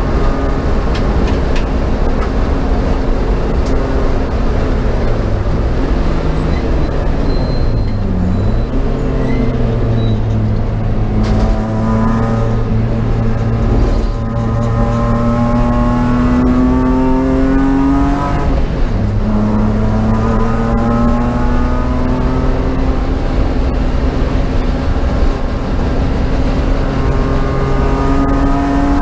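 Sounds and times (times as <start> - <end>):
race car engine at full throttle: 0.0 - 29.0.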